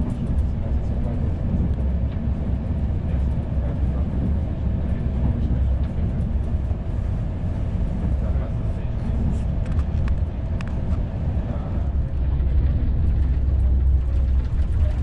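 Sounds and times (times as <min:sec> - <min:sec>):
train rumble from inside: 0:00.0 - 0:15.0.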